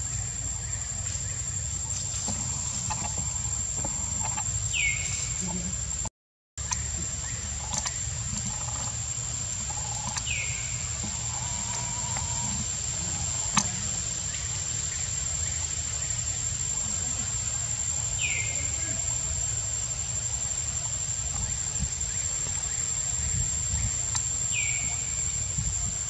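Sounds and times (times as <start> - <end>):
high thin whine: 0.0 - 26.0
steady low rumble: 0.0 - 26.0.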